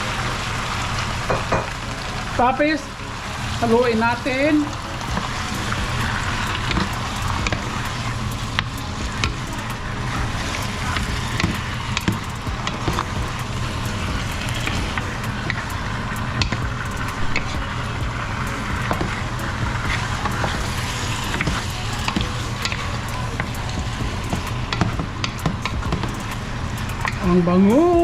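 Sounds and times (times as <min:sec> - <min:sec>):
chicken sizzling in hot oil: 0:00.0 - 0:28.0
low hum: 0:00.0 - 0:28.0.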